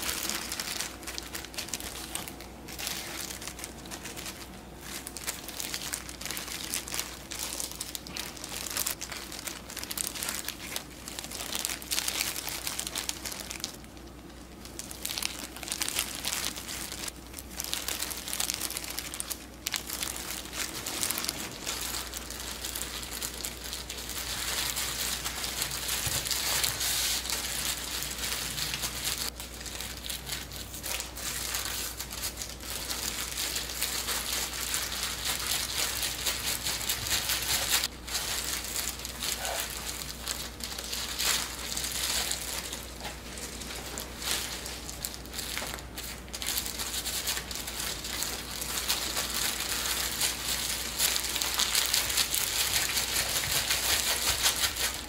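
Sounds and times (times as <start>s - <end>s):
hands crinkling and rustling food: 0.0s - 55.0s
steady low hum: 0.0s - 55.0s.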